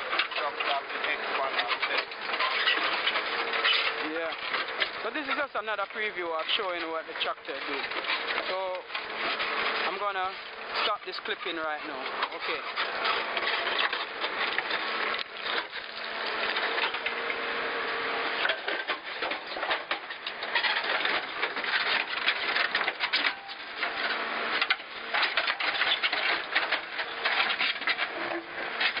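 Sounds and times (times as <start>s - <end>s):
clatter of stones and rubble: 0.0s - 17.4s, 18.4s - 29.0s
diesel engine running: 0.0s - 29.0s.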